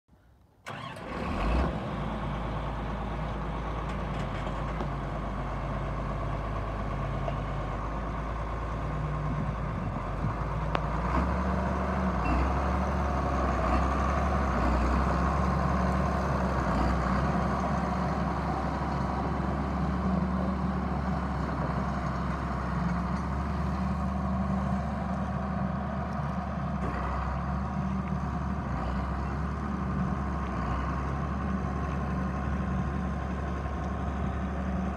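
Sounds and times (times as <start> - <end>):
tractor diesel engine passing: 0.6 - 34.9.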